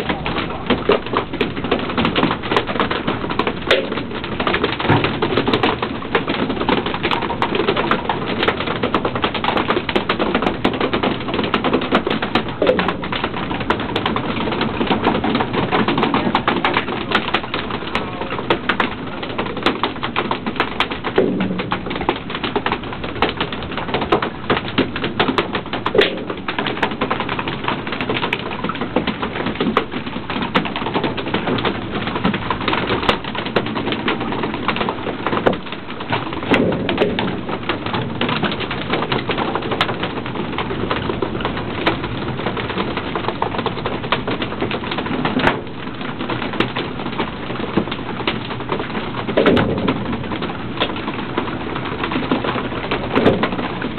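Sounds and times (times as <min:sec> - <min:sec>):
fish tails beating on deck: 0:00.0 - 0:53.9.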